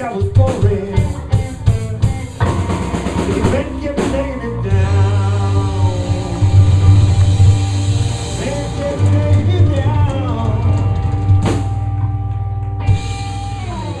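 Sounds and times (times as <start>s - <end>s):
blues guitar bending notes: 0.0s - 14.0s
steady drum beat: 0.0s - 14.0s.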